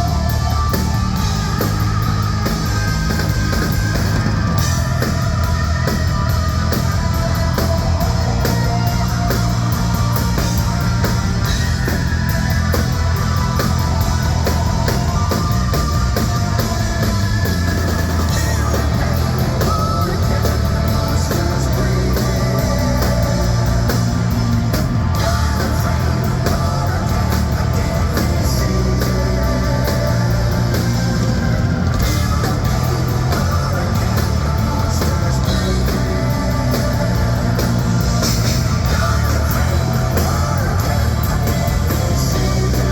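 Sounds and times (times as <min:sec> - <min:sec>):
drum kit: 0:00.0 - 0:42.9
electric guitar: 0:00.0 - 0:42.9.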